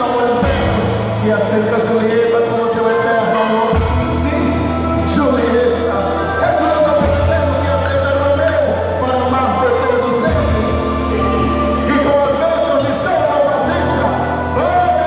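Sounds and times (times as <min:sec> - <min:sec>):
folk dance music: 0:00.0 - 0:15.0
sustained bass notes: 0:00.0 - 0:15.0.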